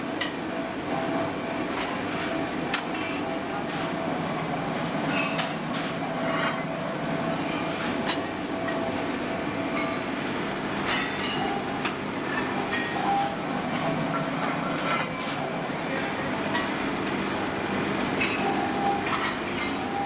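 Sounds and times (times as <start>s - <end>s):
workshop machinery running: 0.0s - 20.0s.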